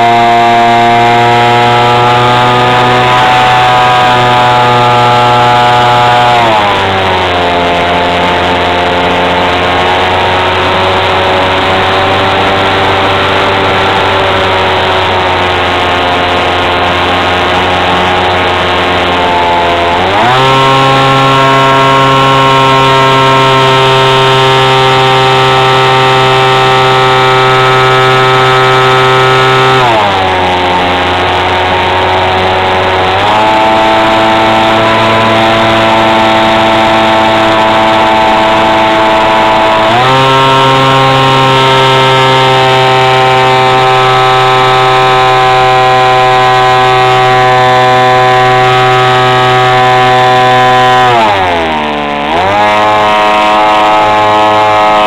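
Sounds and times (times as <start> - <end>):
model airplane motor buzzing: 0.0 - 55.0.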